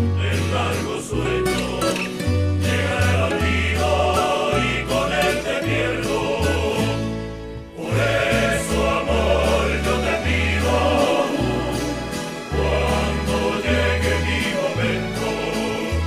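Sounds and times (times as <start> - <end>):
chorus of voices singing: 0.0 - 16.0
steady held bass line: 0.0 - 16.0.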